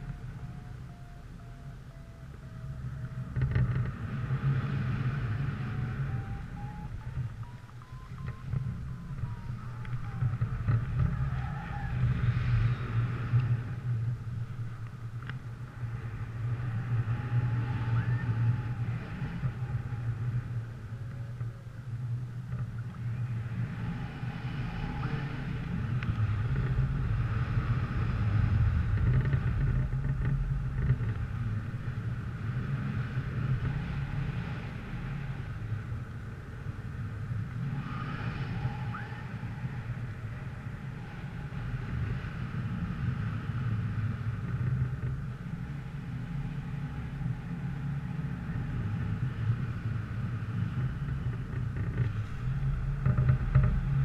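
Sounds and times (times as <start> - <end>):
vehicle rumbling on the move: 0.0 - 54.0.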